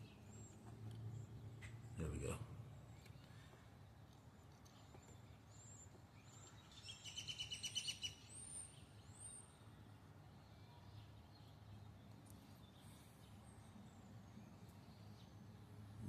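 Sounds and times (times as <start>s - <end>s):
small bird singing: 0.0s - 16.0s.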